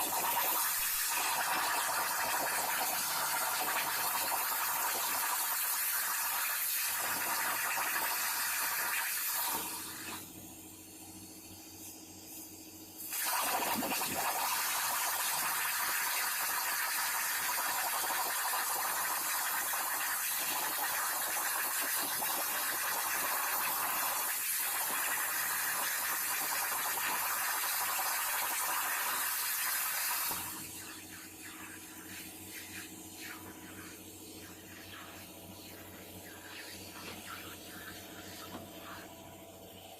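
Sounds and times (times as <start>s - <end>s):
plasma torch hissing: 0.0s - 10.4s, 11.2s - 39.8s.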